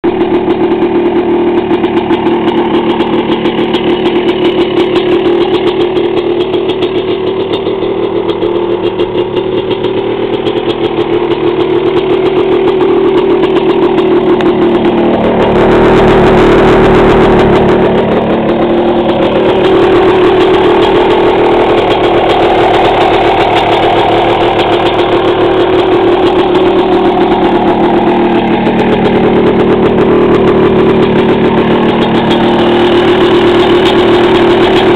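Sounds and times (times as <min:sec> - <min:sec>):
two-stroke engine idling: 0:00.0 - 0:34.9.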